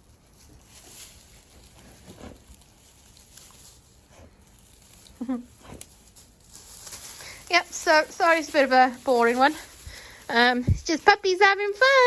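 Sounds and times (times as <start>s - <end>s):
patter of paws: 0.0s - 12.0s
rustling in straw: 0.0s - 12.0s.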